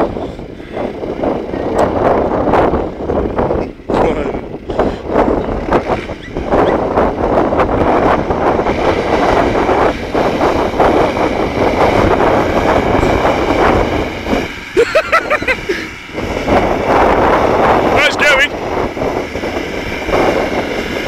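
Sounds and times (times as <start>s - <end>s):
car engine working hard under load: 0.0s - 21.0s.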